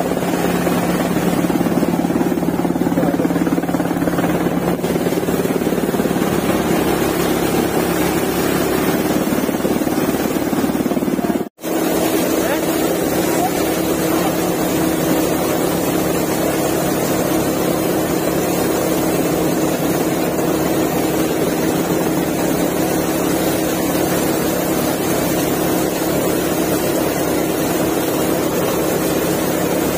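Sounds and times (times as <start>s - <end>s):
thresher machine drone: 0.0s - 29.9s.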